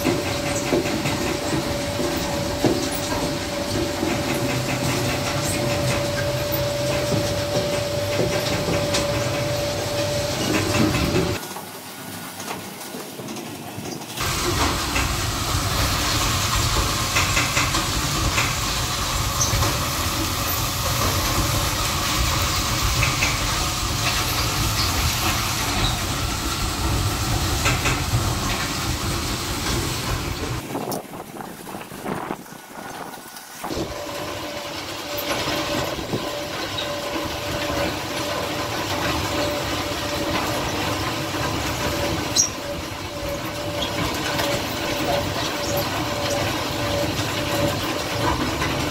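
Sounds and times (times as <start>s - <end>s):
conveyor humming with whine: 0.0s - 48.9s
wood chips rattling and hissing: 0.0s - 48.9s.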